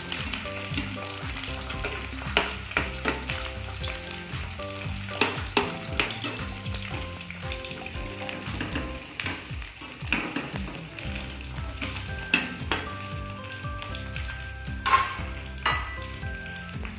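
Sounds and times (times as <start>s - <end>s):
fries sizzling in oil: 0.0s - 16.9s.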